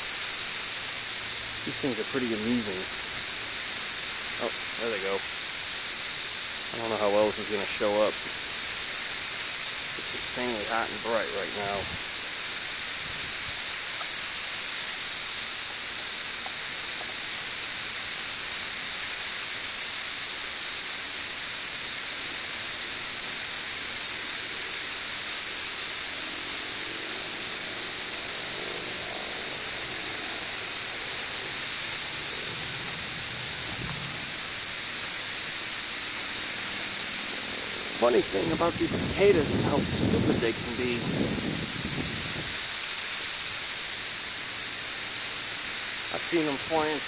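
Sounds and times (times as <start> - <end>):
cicadas droning chorus: 0.0 - 47.0.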